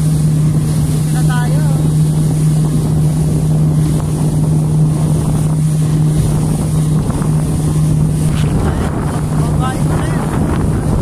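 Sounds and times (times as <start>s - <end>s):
motorboat engine droning: 0.0s - 11.0s
water rushing past hull: 0.0s - 11.0s.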